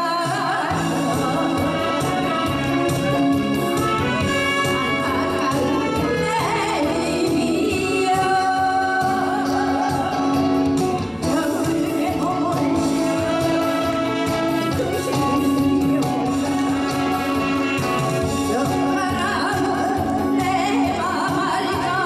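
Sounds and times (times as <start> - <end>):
woman singing into microphone: 0.0 - 3.1, 4.0 - 22.0
live band playing: 0.0 - 22.0.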